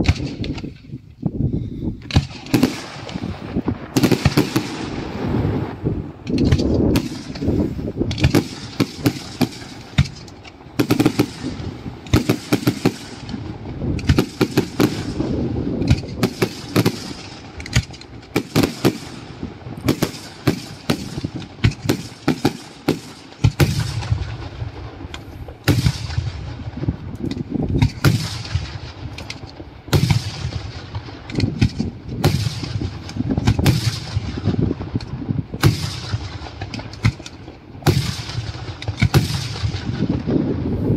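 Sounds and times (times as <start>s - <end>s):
fireworks bangs: 2.0s - 40.9s.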